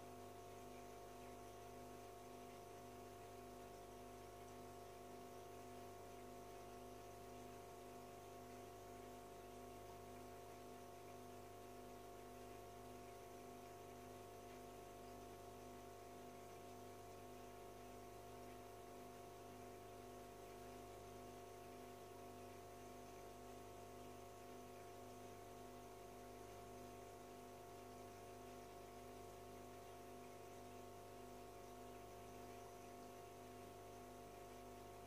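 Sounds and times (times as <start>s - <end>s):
aquarium filter pump humming: 0.0s - 35.0s.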